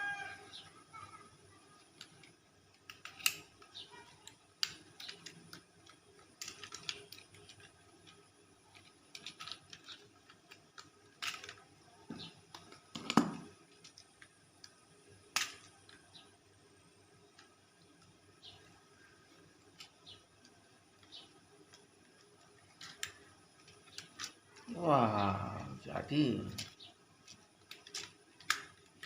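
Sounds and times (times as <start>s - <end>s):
plastic toy parts clicking: 1.6s - 29.0s.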